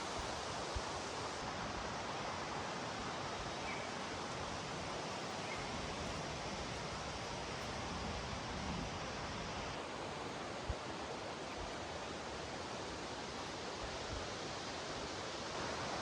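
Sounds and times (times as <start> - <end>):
outdoor ambient hiss: 0.0 - 16.0.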